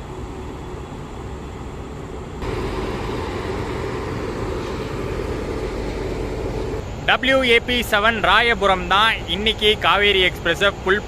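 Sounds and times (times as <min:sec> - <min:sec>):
electric locomotive humming: 0:00.0 - 0:11.0.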